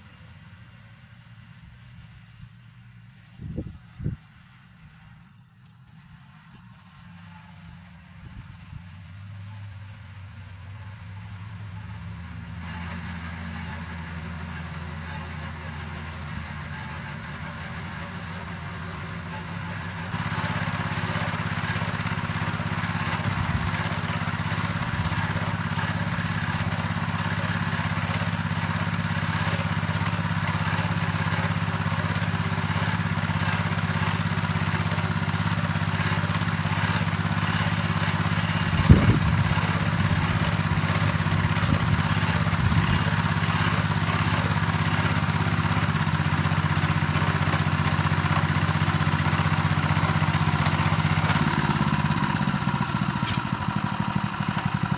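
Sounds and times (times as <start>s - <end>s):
tiller engine running: 5.0s - 54.9s.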